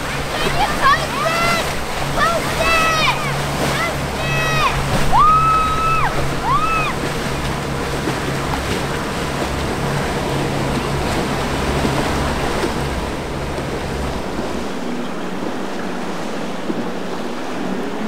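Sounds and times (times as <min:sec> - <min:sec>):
outboard motors droning: 0:00.0 - 0:18.0
rushing churning water: 0:00.0 - 0:18.0.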